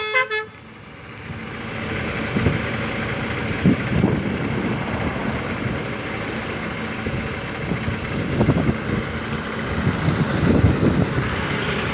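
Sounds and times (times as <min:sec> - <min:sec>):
road noise: 0:00.0 - 0:11.9
vehicle engine running: 0:00.6 - 0:11.9.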